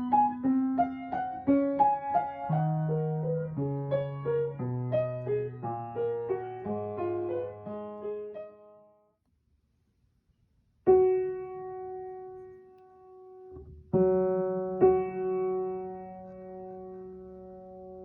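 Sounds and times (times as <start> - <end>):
piano playing: 0.0 - 8.9, 10.9 - 18.0.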